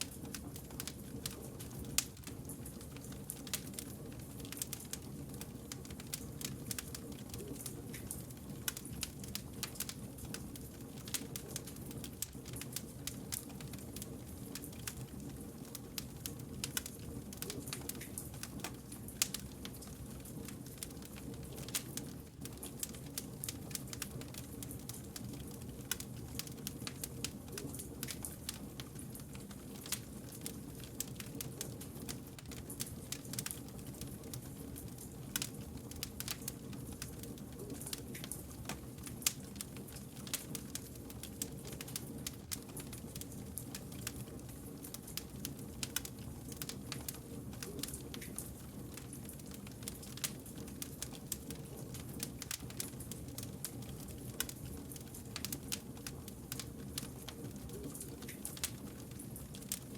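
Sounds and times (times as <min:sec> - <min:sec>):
low rumble of flame: 0:00.0 - 0:59.9
wood fire crackling and popping: 0:00.0 - 0:59.9.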